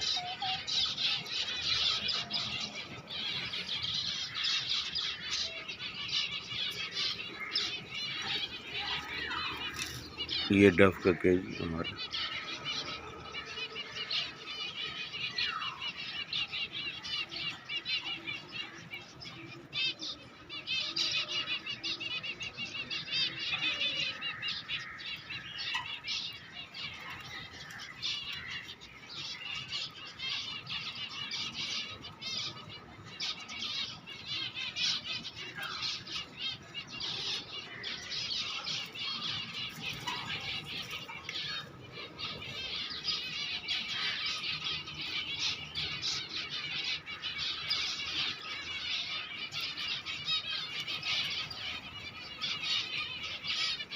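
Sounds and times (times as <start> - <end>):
caged birds chirping: 0.0 - 53.9.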